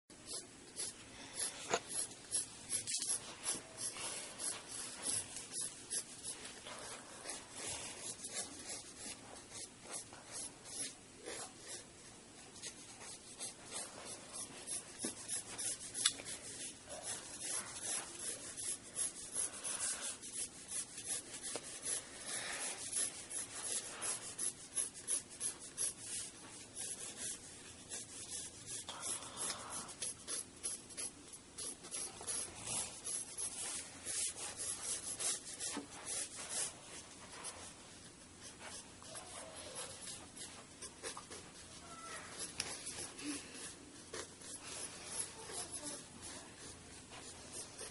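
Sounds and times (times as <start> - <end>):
pencil scratching on paper: 0.1 - 47.9.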